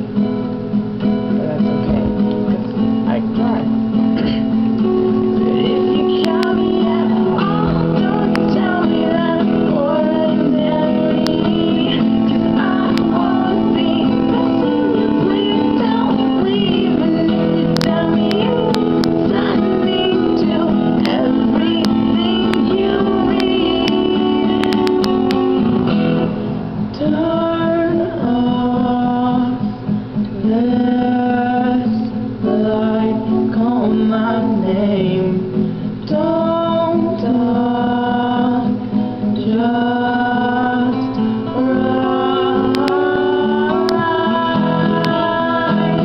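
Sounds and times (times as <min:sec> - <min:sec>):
guitar playing chords: 0:00.0 - 0:46.0
person singing: 0:01.9 - 0:25.9, 0:26.9 - 0:46.0.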